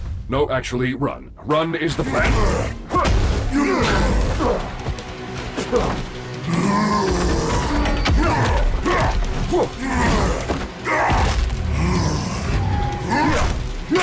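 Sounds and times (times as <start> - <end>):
action music: 1.4 - 14.0.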